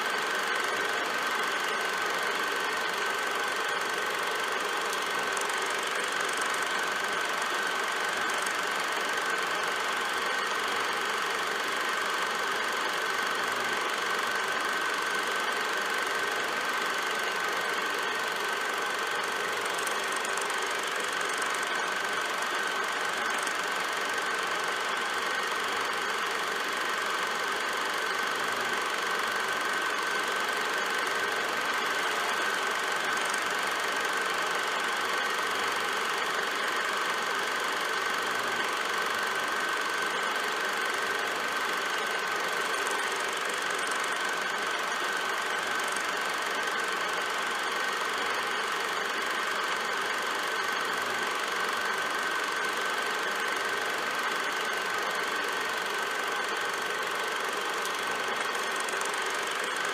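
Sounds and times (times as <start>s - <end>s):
film projector whirring and clattering: 0.0s - 59.9s.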